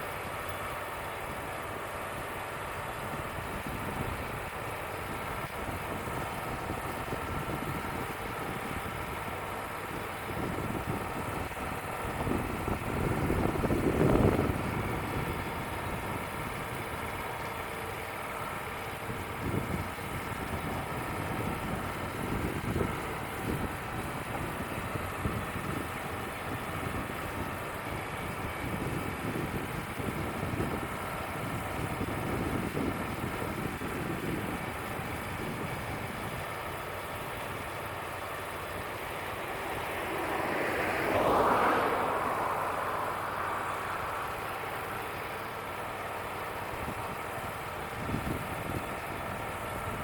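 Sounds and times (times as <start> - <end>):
sawmill engine droning: 0.0 - 50.0.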